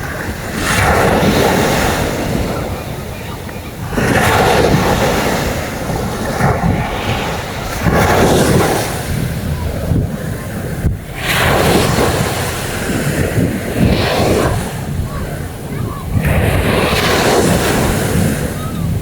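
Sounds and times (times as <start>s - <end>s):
sea waves breaking on a beach: 0.0s - 19.0s
wind buffeting microphone: 0.0s - 19.0s.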